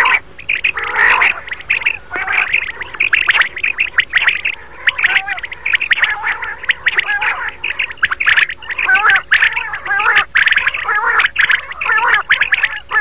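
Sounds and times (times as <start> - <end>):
low trilling notes: 0.0 - 13.0
quail chirping calls: 0.0 - 13.0.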